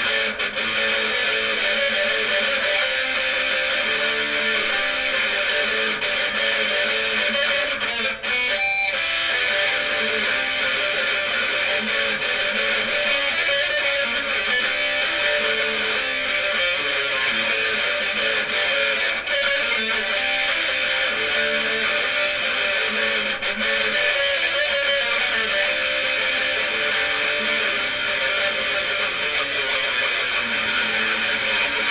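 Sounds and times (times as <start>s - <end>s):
electric guitar strummed: 0.0s - 31.9s.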